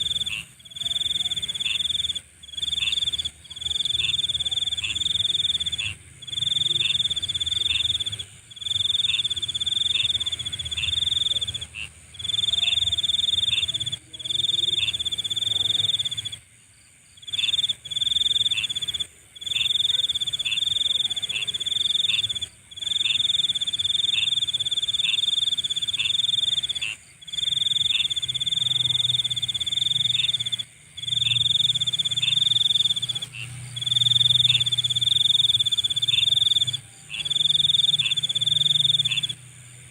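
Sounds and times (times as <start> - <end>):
insects trilling: 0.0 - 39.9
pulsing insect call: 0.0 - 39.9.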